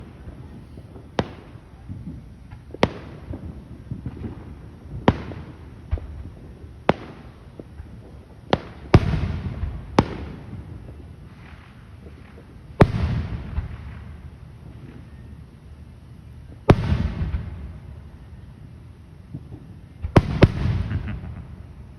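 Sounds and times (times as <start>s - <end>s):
fireworks bangs: 0.0s - 15.2s, 16.4s - 18.1s, 19.3s - 21.9s
fireworks crackling: 0.0s - 21.9s.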